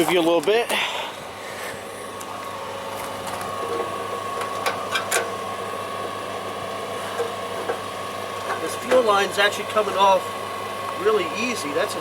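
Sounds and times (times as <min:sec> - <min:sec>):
generator humming: 0:00.0 - 0:12.0.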